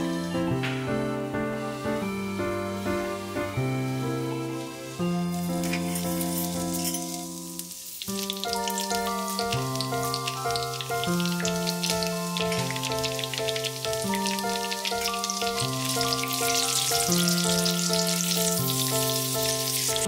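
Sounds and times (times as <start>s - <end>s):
butter sizzling in a frying pan: 0.0s - 20.0s
gentle background music: 0.0s - 20.0s.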